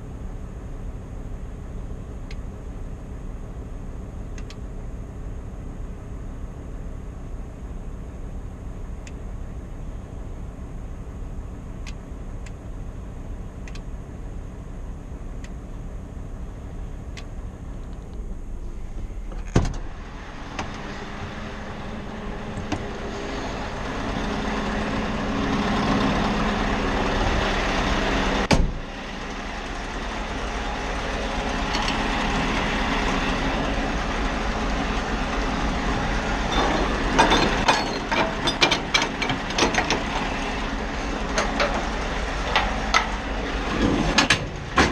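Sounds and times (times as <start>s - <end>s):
truck engine rumbling: 0.0s - 44.9s.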